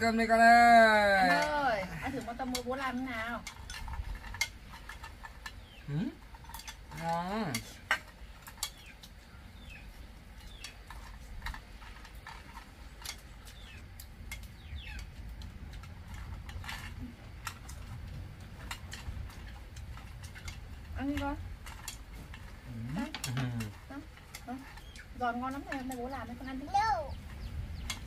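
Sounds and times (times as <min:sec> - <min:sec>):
utensils clicking against dishes: 0:01.2 - 0:28.0.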